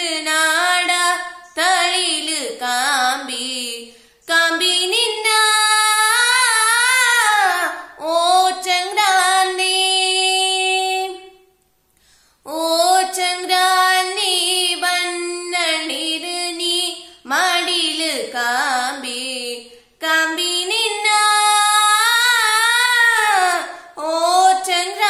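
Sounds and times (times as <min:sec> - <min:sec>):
woman singing unaccompanied: 0:00.0 - 0:11.4, 0:12.5 - 0:25.0.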